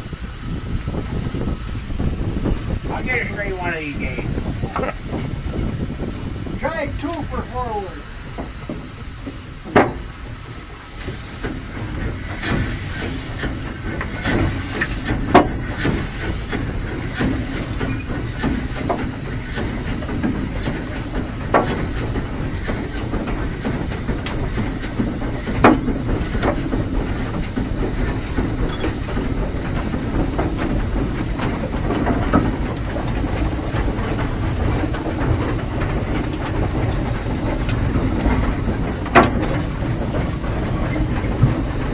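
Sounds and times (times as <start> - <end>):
steam locomotive hiss and running: 0.0 - 41.9.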